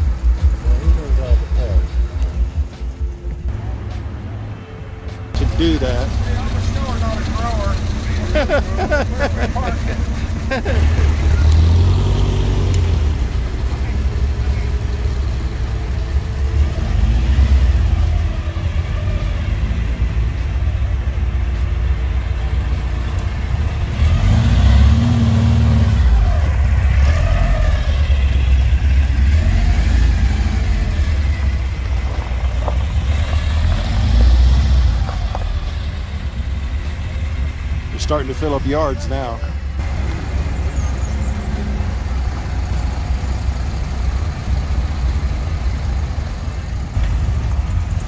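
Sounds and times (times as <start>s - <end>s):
motorcycle engine rumbling: 0.0s - 48.0s.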